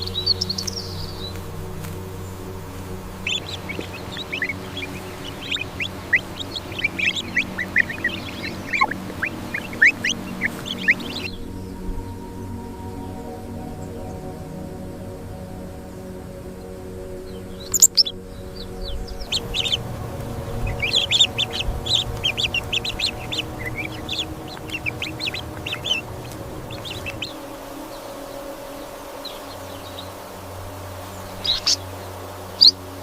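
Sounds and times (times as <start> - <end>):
birds chirping: 0.0 - 33.0
soft background music: 0.0 - 33.0.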